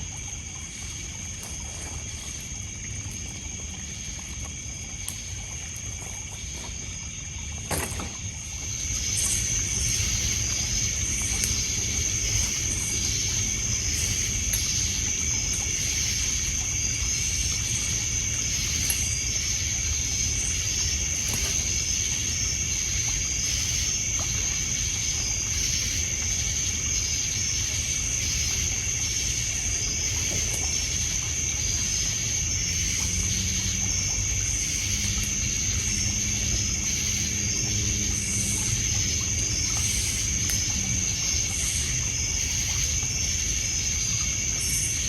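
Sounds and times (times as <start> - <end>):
crickets and insects trilling: 0.0 - 45.0
low steady hum: 0.0 - 45.0
water lapping on pebbles: 0.0 - 45.0.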